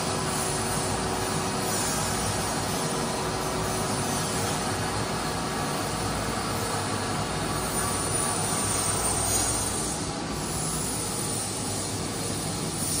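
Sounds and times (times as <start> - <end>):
machinery humming and hissing: 0.0 - 13.0.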